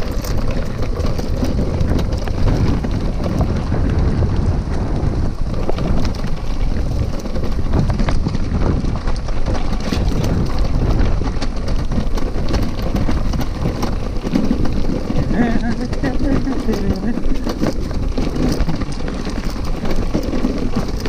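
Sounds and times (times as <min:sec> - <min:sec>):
bicycle knocks and rattles: 0:00.0 - 0:21.0
bicycle tyre rumble on dirt: 0:00.0 - 0:21.0
wind buffeting microphone: 0:00.0 - 0:21.0.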